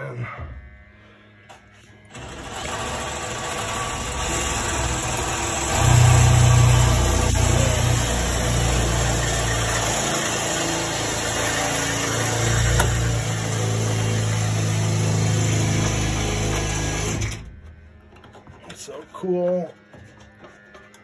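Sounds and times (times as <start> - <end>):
furnace blower motor hum: 0.2 - 18.3.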